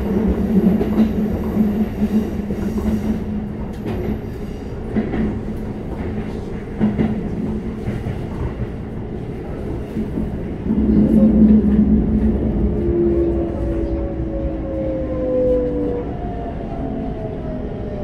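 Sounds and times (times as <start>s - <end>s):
electric train hum: 0.0s - 18.0s.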